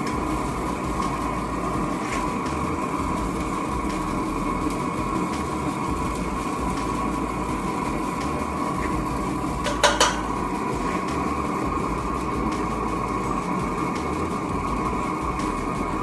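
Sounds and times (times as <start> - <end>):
steady mechanical whir: 0.0 - 16.0.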